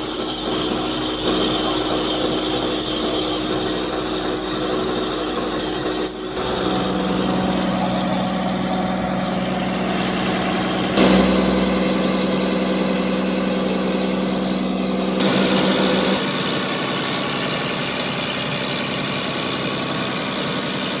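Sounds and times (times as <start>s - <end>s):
diesel generator engine running: 0.0s - 21.0s.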